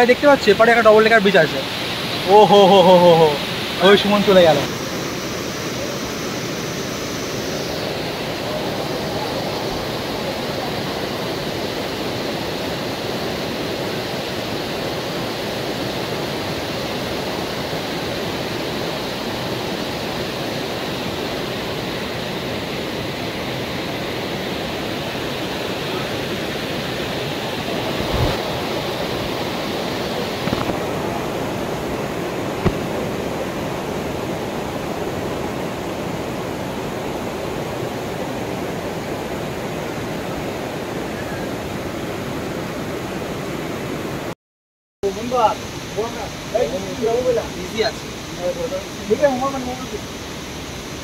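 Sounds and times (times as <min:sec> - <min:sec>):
stream and waterfall rushing: 0:00.0 - 0:44.4, 0:45.0 - 0:51.0.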